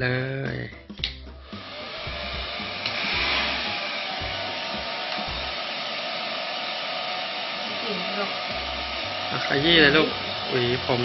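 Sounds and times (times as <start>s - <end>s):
hair dryer blowing: 1.4s - 11.0s.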